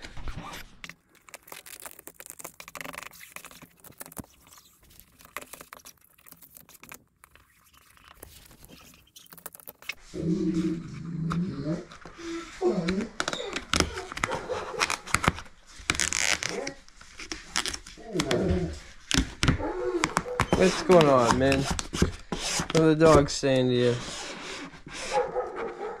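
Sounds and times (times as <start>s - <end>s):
vinyl film scraping and crackling: 0.0s - 26.0s.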